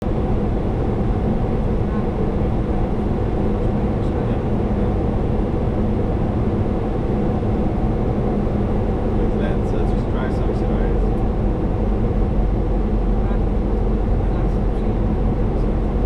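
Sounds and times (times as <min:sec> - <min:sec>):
airflow and engine rumble: 0:00.0 - 0:16.0
faint steady hum: 0:00.0 - 0:16.0.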